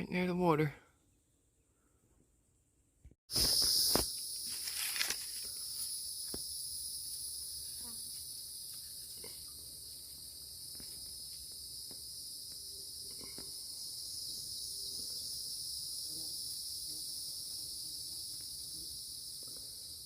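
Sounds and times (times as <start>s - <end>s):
high-pitched insect chorus: 3.3s - 20.0s.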